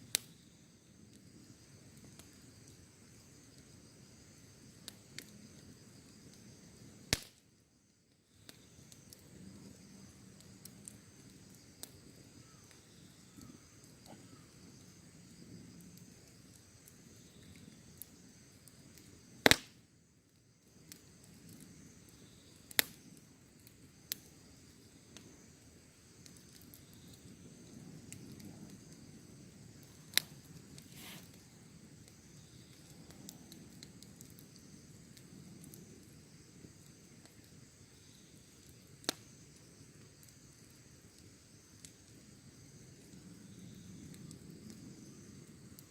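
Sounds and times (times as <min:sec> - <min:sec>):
wood fire crackling: 0:00.0 - 0:45.9
burning wood popping: 0:00.1 - 0:07.5, 0:08.4 - 0:45.9.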